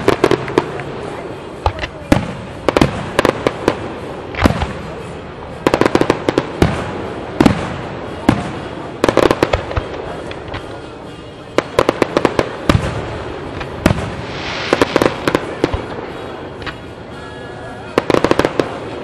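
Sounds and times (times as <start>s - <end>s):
fireworks bangs: 0.0s - 17.2s
fireworks crackling pops: 0.0s - 17.2s.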